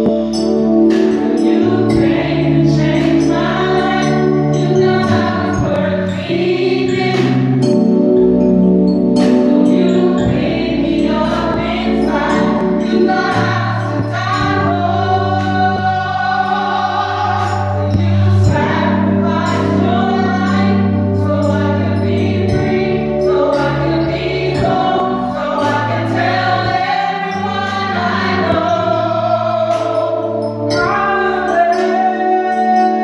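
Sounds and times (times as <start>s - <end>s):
bass notes: 0.0s - 31.7s
choir singing long held notes: 0.0s - 33.0s
percussion: 0.0s - 33.0s.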